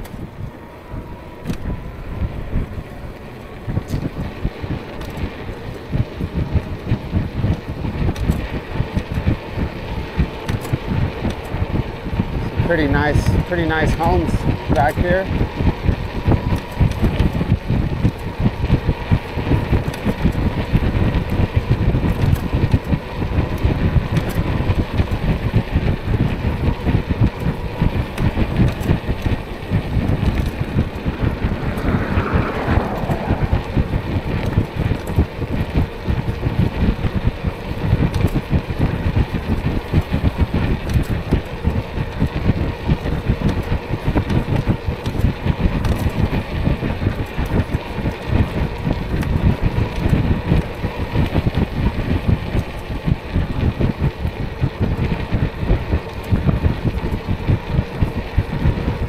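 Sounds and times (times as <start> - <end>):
road and traffic noise: 0.0 - 59.0
wind buffeting microphone: 0.0 - 59.0.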